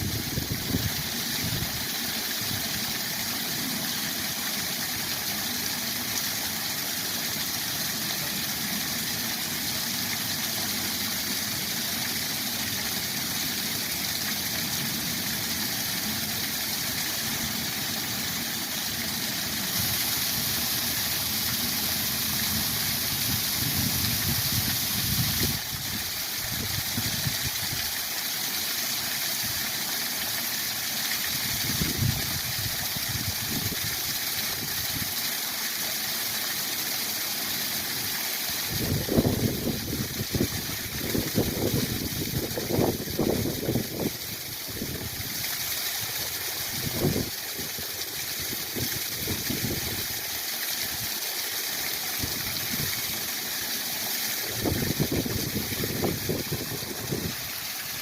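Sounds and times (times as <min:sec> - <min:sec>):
waterfall rushing: 0:00.0 - 0:29.1, 0:30.2 - 0:58.0.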